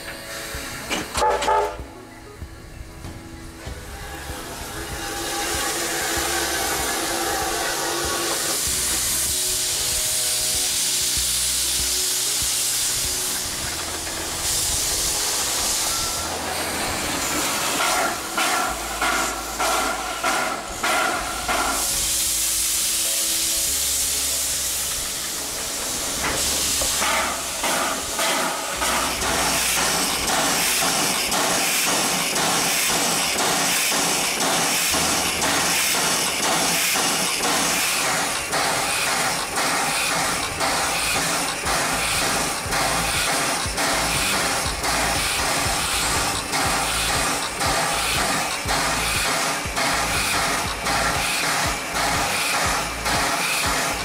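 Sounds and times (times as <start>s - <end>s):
steam hissing: 0.0s - 1.8s, 3.4s - 54.0s
rhythmic locomotive beats: 0.0s - 54.0s.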